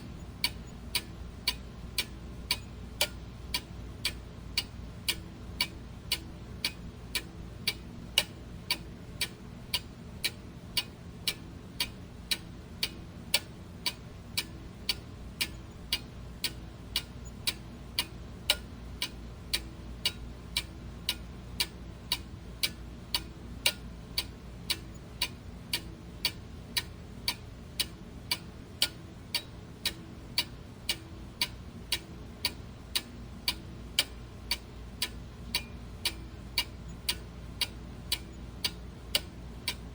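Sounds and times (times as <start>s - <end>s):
clock ticking: 0.4s - 39.9s.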